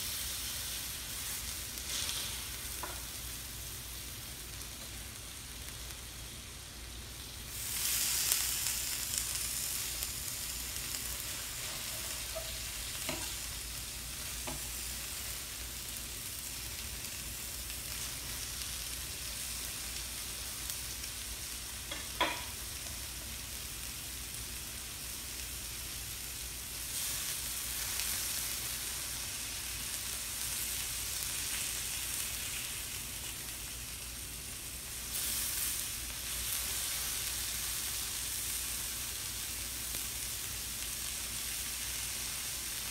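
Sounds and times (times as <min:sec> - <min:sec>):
steak sizzling on a griddle: 0:00.0 - 0:42.9.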